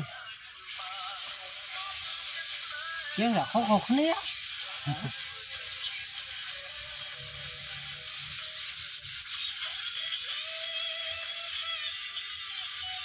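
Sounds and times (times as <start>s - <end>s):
paintbrush scrubbing wood: 0.5s - 13.0s.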